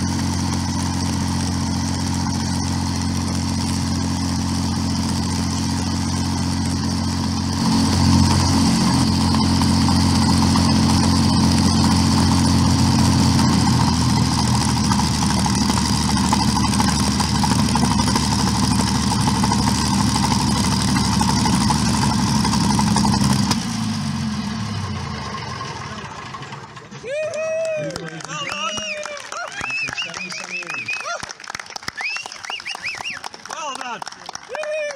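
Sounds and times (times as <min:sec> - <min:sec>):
aero engine running: 0:00.0 - 0:34.6.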